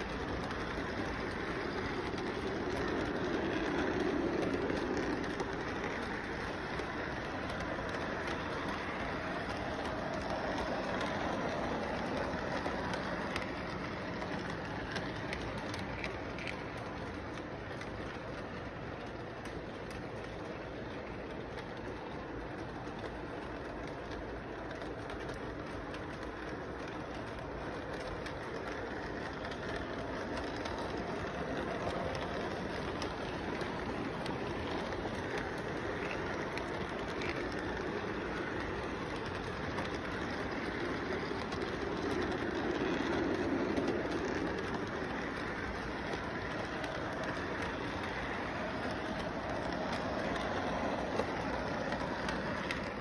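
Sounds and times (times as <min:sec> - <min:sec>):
model train wheels rumbling: 0:00.0 - 0:53.0.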